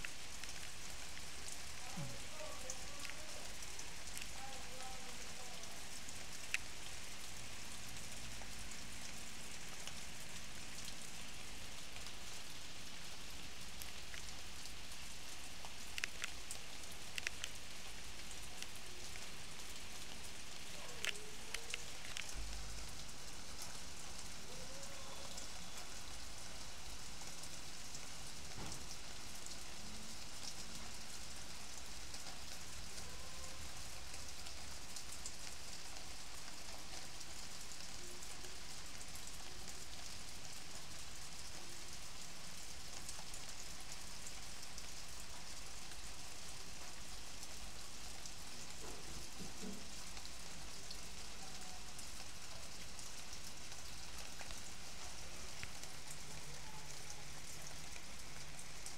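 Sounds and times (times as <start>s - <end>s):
rain on leaves and grass: 0.0s - 58.9s.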